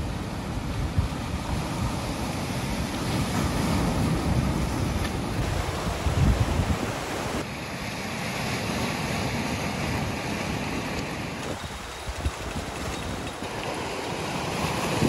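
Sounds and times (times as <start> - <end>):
wind buffeting microphone: 0.0 - 7.5, 9.7 - 15.0
surf breaking on rocky shore: 0.0 - 15.0.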